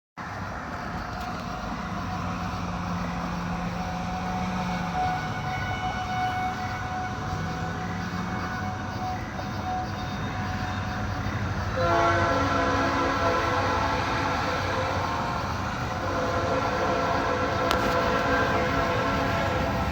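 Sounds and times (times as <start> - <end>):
noisy background: 0.2 - 19.9
tornado warning sirens: 0.2 - 19.9
siren chord of several tones: 1.3 - 19.9.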